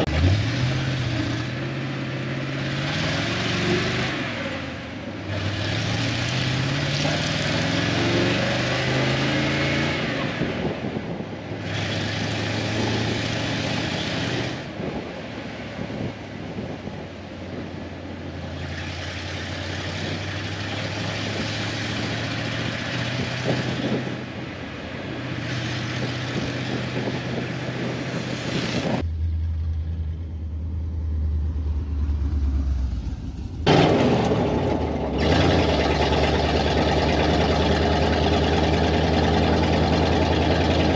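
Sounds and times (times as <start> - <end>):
pickup engine accelerating: 0.0 - 40.9
road and wind noise: 0.0 - 40.9.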